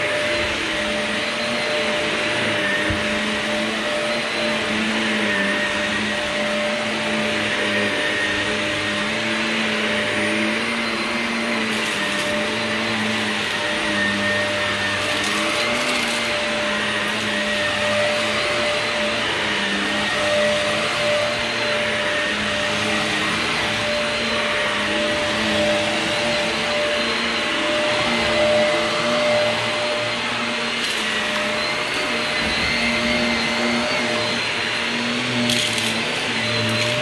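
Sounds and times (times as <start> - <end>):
vacuum cleaner running on carpet: 0.0 - 37.0.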